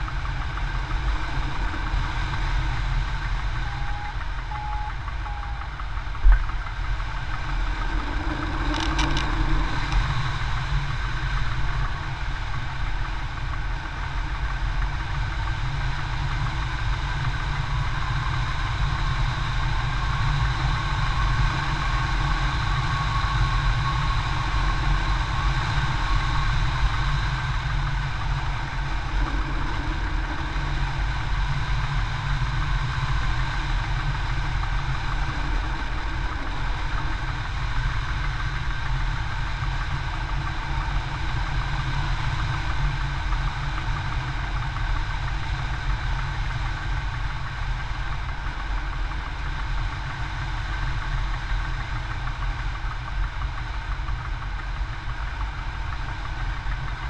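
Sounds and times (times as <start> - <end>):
wind rush and buffeting: 0.0 - 57.0.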